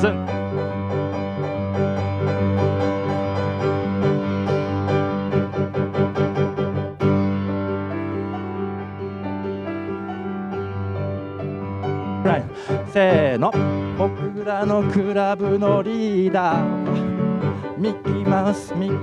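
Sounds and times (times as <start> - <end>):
keyboard music: 0.0 - 19.0.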